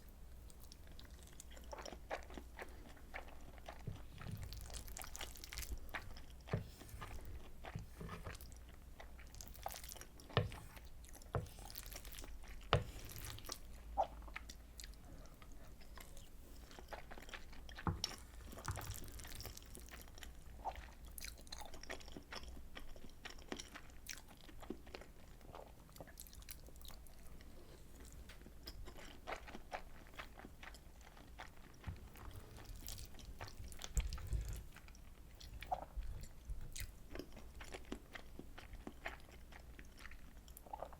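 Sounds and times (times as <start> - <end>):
close chewing and biting: 0.5 - 40.9.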